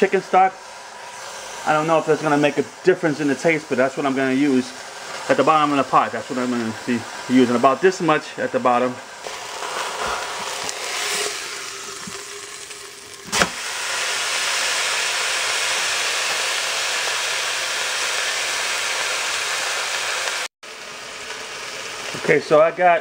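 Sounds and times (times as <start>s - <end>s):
meat sizzling in a pot: 0.0s - 23.0s.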